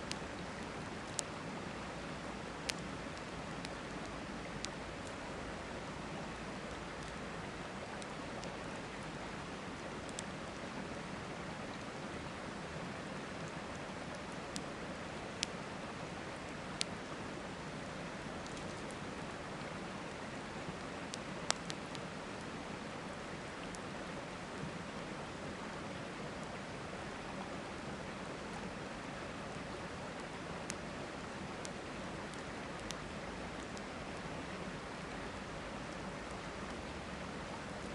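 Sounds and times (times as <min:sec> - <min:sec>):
campfire crackling: 0:00.0 - 0:37.9
river flowing: 0:00.0 - 0:37.9.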